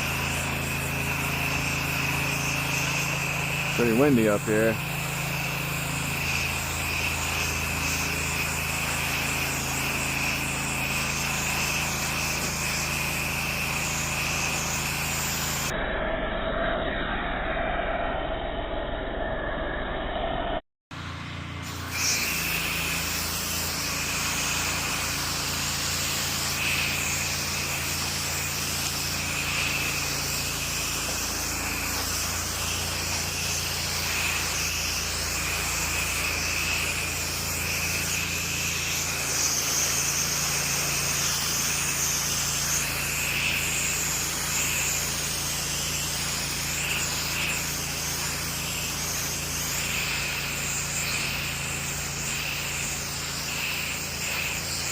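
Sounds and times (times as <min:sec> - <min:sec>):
pressure washer engine hum: 0:00.0 - 0:15.7, 0:20.9 - 0:54.9
water spraying hiss: 0:00.0 - 0:15.7, 0:21.6 - 0:54.9.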